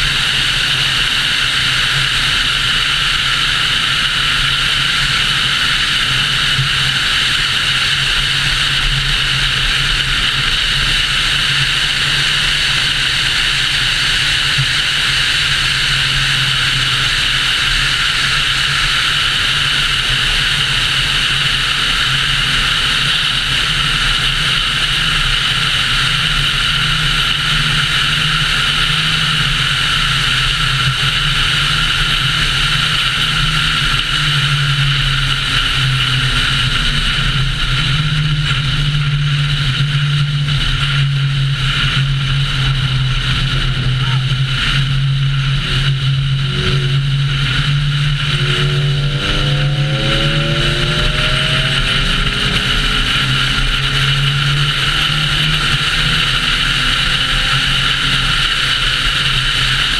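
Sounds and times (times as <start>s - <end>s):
low engine drone: 0.0s - 59.9s
wind and road noise: 0.0s - 59.9s.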